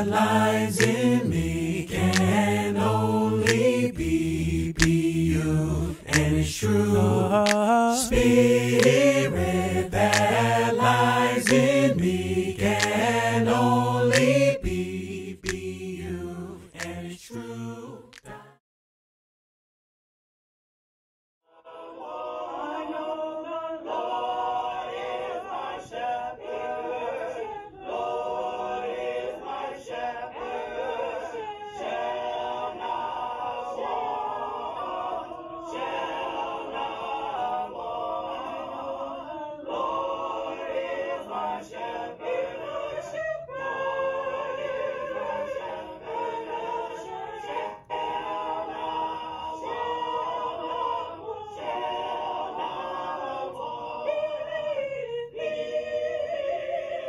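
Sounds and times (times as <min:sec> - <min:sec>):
choir singing in harmony: 0:00.0 - 0:18.6, 0:21.5 - 0:57.0.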